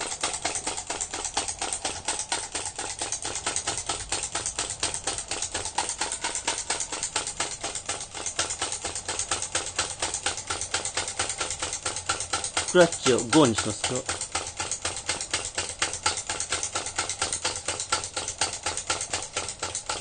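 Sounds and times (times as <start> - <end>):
model engine clicking: 0.0 - 20.0.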